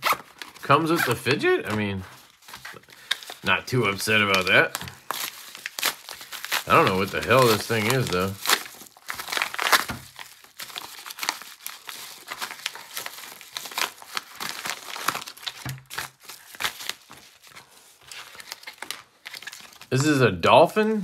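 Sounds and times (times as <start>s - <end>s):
packaging crinkling and rustling: 0.0s - 20.2s.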